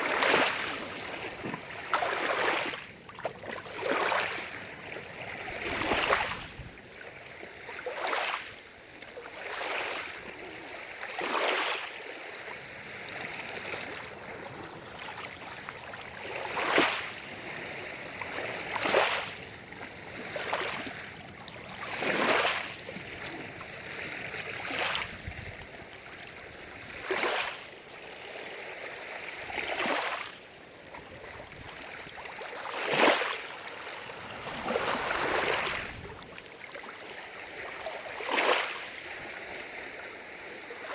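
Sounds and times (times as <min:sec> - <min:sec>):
waves lapping against shore: 0:00.0 - 0:40.9.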